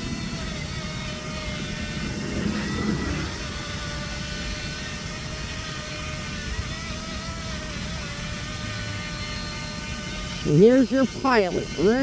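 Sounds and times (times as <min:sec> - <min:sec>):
toy boat motor whining: 0:00.0 - 0:12.0.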